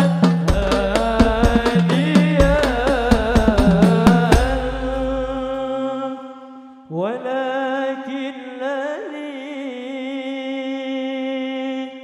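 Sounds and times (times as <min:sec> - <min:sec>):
man singing long held note: 0:00.0 - 0:12.0.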